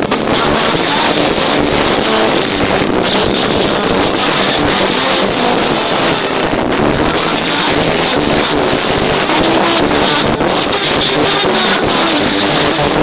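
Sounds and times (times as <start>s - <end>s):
distorted church band and singers: 0.0s - 13.0s.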